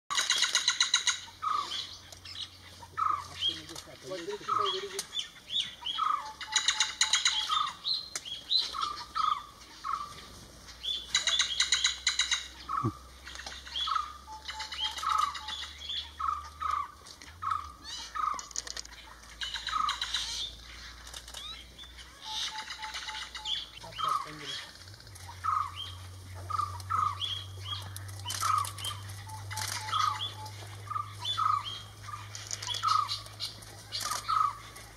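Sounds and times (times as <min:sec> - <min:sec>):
rapid rattling bird calls: 0:00.1 - 0:34.9.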